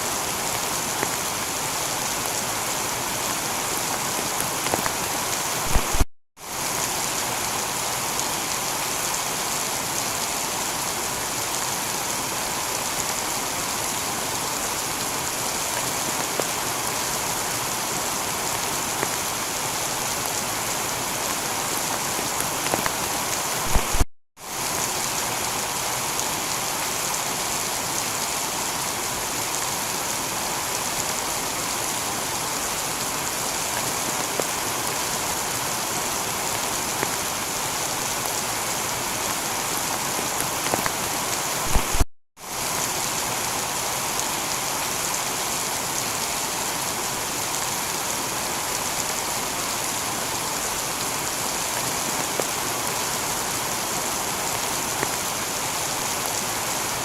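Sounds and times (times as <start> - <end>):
heavy rain on a tiled roof: 0.0 - 57.0.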